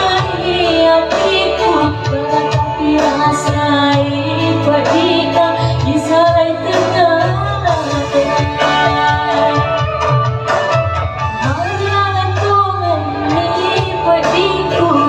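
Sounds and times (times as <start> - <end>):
woman singing: 0.0 - 10.1, 11.4 - 15.0
instrumental backing with bass: 0.0 - 15.0.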